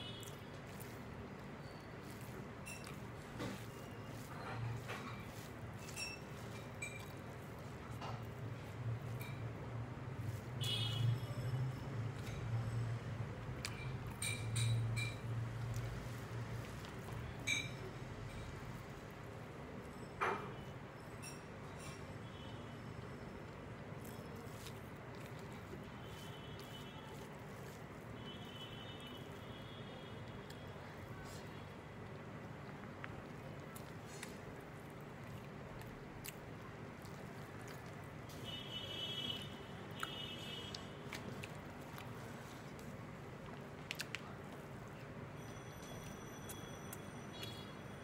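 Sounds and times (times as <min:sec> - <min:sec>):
fingers mixing rice on a plate: 0:00.0 - 0:22.1, 0:23.3 - 0:47.6
soft chewing: 0:00.0 - 0:48.0.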